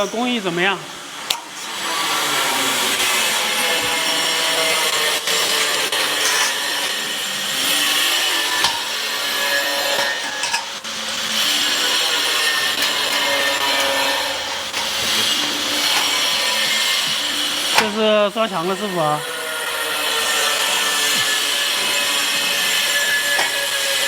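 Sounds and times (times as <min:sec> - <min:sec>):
tools rasping and sawing: 0:01.3 - 0:24.0.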